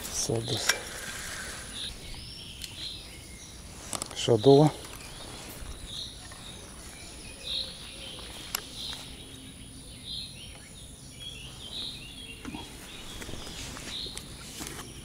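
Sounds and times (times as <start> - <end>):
bird chirping: 0.0 - 15.0
steady background noise: 0.0 - 15.0.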